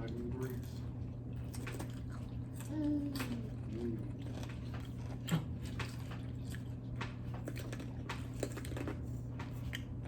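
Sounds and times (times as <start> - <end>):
people crunching chips: 1.4 - 9.9.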